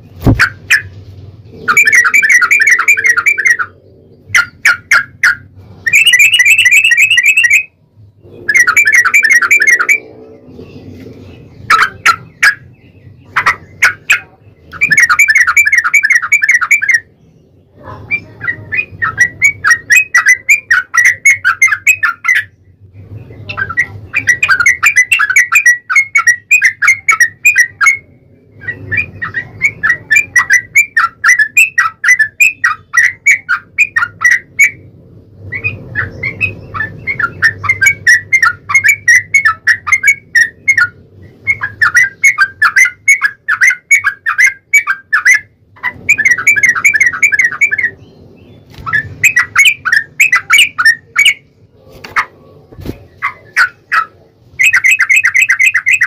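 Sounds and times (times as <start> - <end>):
bird singing rapid repeated notes: 0.0 - 56.0.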